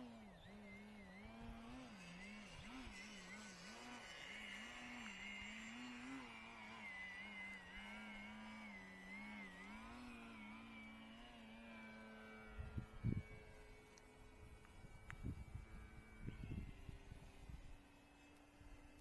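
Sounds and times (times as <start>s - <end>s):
electric model glider motor drone: 0.0s - 19.0s.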